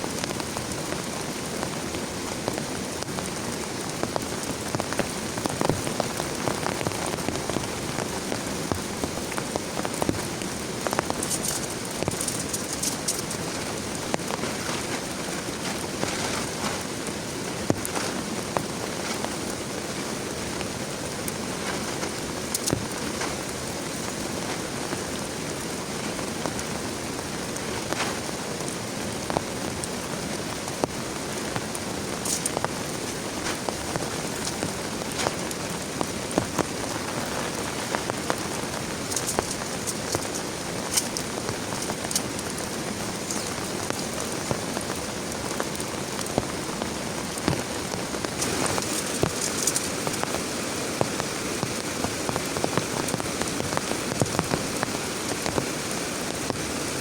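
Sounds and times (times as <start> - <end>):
heavy rain falling: 0.0 - 57.0
raindrops striking close by: 0.0 - 57.0.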